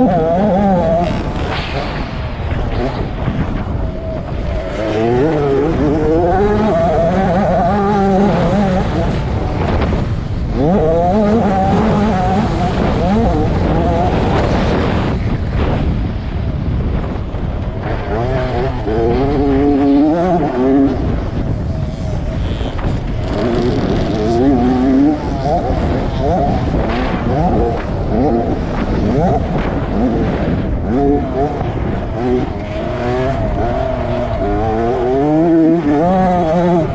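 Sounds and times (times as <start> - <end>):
two-stroke motocross engine revving: 0.0 - 3.6, 4.2 - 15.8, 17.6 - 36.9
wind and track noise: 0.0 - 36.9.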